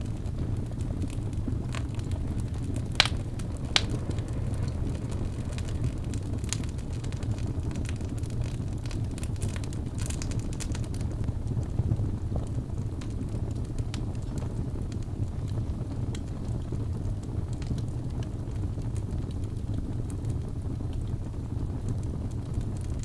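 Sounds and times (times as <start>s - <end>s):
fire pops and snaps: 0.0s - 23.0s
fire rumble: 0.0s - 23.0s.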